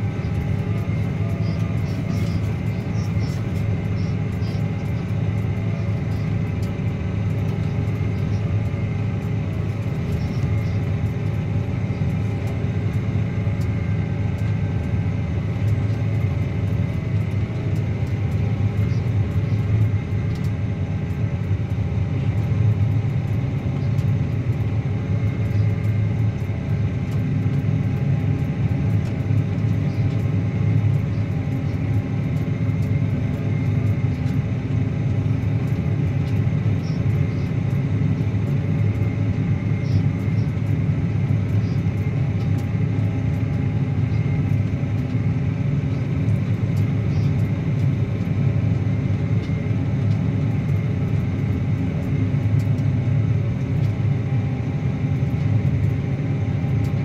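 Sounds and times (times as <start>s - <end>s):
tractor diesel engine rumbling: 0.0s - 52.0s.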